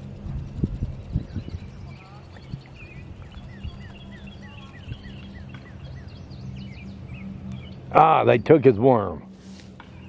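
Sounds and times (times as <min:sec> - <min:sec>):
low engine hum: 0:00.0 - 0:10.0
songbird chirping: 0:00.3 - 0:08.9.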